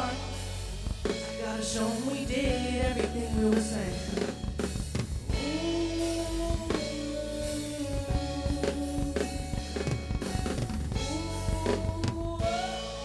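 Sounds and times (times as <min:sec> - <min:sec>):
drum kit hits: 0:00.0 - 0:12.9.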